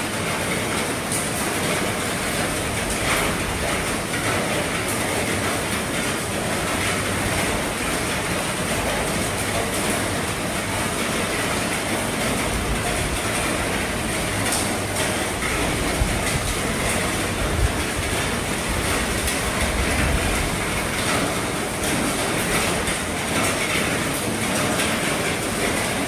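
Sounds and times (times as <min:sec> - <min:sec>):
heavy rain on a roof: 0:00.0 - 0:26.0.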